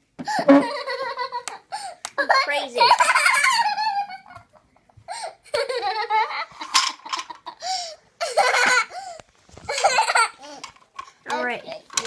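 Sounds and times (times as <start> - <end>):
child laughing and giggling: 0.3 - 10.8.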